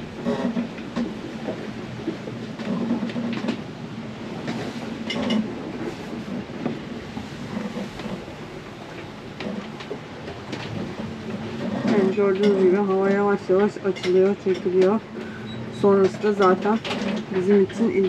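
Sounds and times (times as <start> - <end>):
knocks and creaks: 0.0 - 3.7, 4.3 - 8.3, 8.9 - 18.0
rushing water: 0.0 - 18.0.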